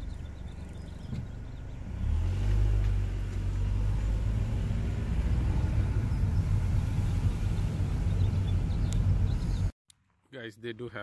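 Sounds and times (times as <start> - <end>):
car driving rumble inside car: 0.0 - 9.7
road and wind noise: 0.0 - 11.0.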